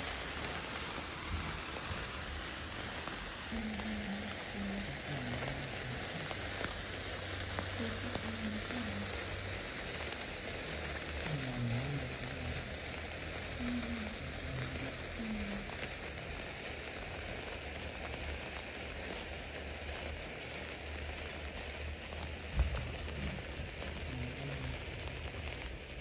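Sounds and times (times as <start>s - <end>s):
sparklers fizzing and crackling: 0.0s - 26.0s.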